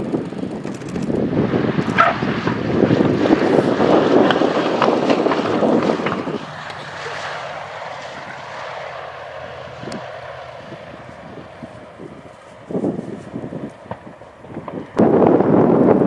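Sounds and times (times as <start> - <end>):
radial aircraft engines: 0.0 - 16.0
wind buffeting microphone: 0.0 - 16.0.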